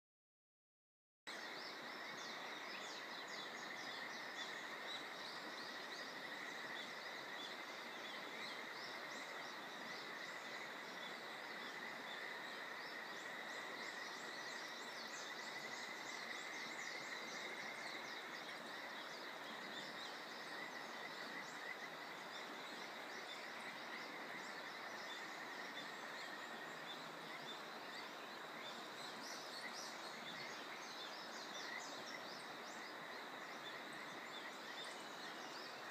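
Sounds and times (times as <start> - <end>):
faint background hiss: 1.3 - 35.9
small birds chirping: 1.3 - 35.9.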